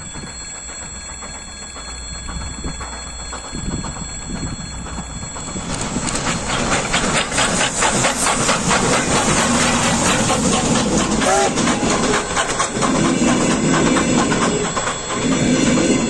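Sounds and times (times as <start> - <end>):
hissing steam: 0.0 - 16.0
steam locomotive exhaust chuffs: 0.0 - 16.0.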